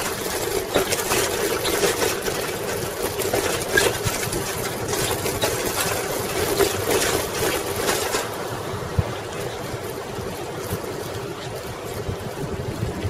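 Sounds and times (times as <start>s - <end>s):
bicycle rolling and rattling: 0.0s - 13.0s.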